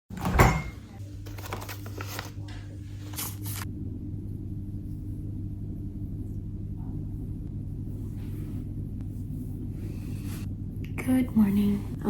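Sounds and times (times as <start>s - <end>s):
steady low hum: 0.8s - 12.0s.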